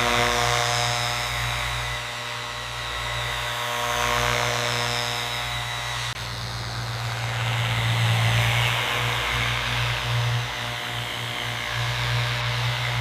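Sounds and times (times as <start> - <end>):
power tool motor running: 0.0 - 13.0.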